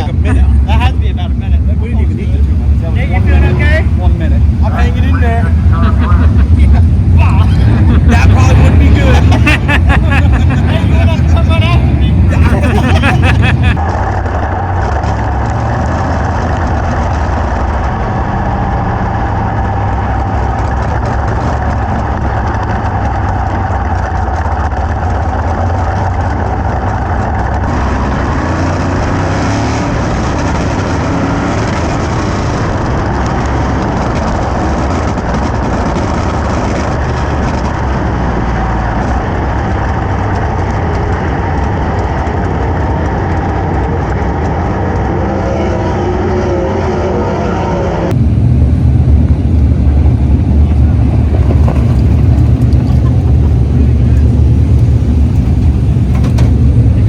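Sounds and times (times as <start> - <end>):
race car engines running: 0.0 - 57.0.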